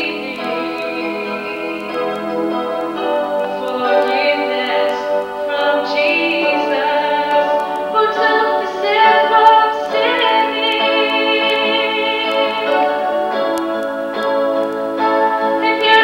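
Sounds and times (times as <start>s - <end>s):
woman singing: 0.0s - 13.6s, 15.0s - 16.0s
keyboard accompaniment: 0.0s - 16.0s.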